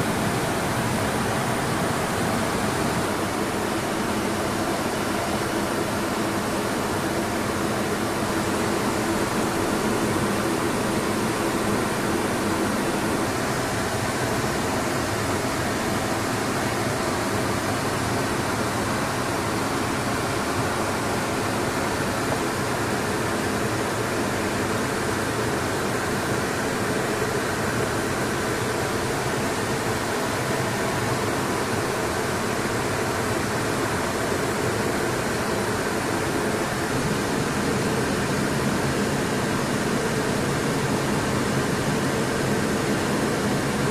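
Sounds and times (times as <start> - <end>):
airflow and jet engines: 0.0 - 43.9.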